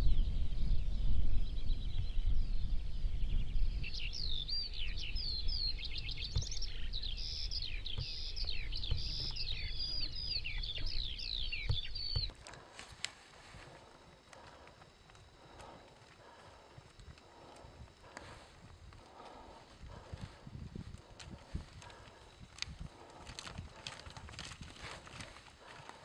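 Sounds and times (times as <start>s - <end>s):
birds chirping and whistling: 0.0s - 26.0s
horses galloping rumble: 5.0s - 26.0s.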